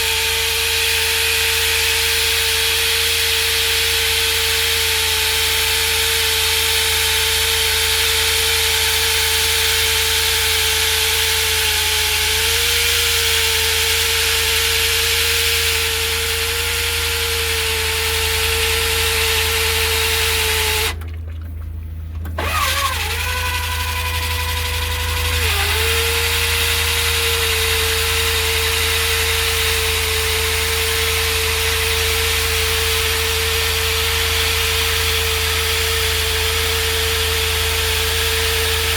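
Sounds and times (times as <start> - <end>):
core drill motor humming: 0.0 - 21.0, 22.2 - 38.9
drill grinding through concrete: 0.0 - 21.0, 22.4 - 38.9.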